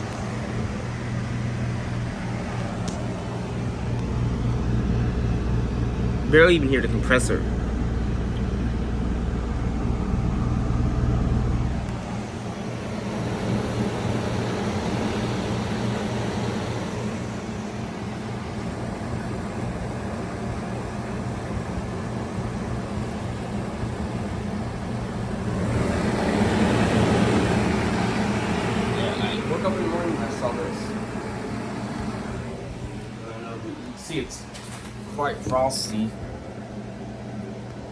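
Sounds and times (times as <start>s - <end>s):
faint compressor hum: 0.0s - 37.9s
fan airflow: 0.0s - 37.9s.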